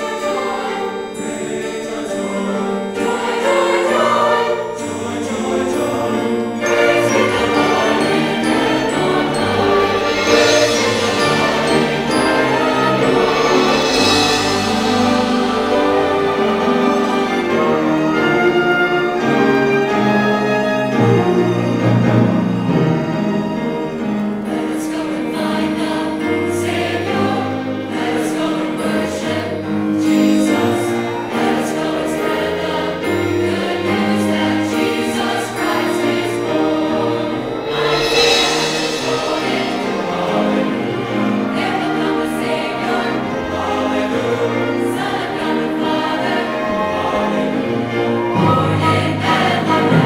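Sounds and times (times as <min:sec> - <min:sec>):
mixed choir singing: 0:00.0 - 0:50.0
strings and piano accompaniment: 0:00.0 - 0:50.0.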